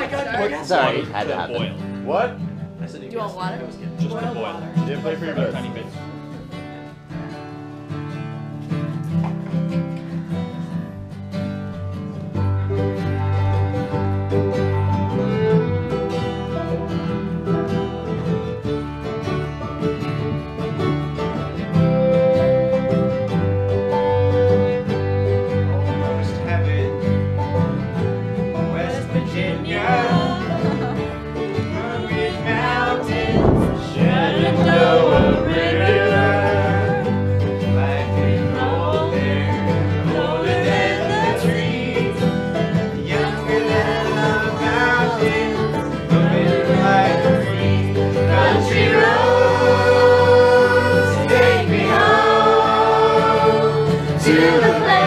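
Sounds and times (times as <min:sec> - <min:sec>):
banjo and acoustic guitars playing: 0:00.0 - 0:55.0.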